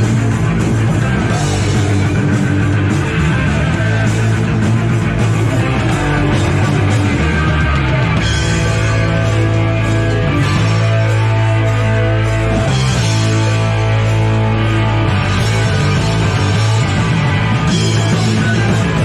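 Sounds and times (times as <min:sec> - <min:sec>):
punk rock band playing live: 0:00.0 - 0:19.0.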